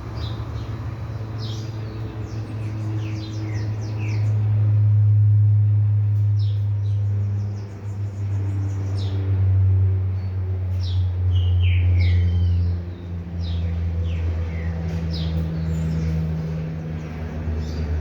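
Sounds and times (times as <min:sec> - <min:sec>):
birds chirping: 0:00.0 - 0:04.7, 0:06.4 - 0:09.4, 0:10.1 - 0:18.0
steady low hum: 0:00.0 - 0:18.0.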